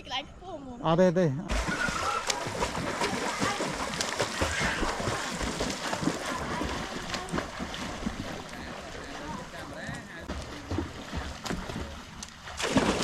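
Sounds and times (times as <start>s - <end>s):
water splashing and sloshing: 1.5s - 13.0s.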